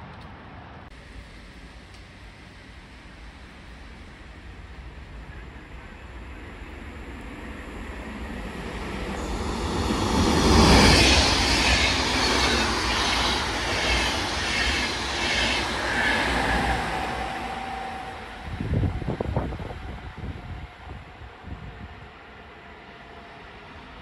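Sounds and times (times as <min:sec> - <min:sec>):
train passing with wheel clatter: 0:00.0 - 0:24.0.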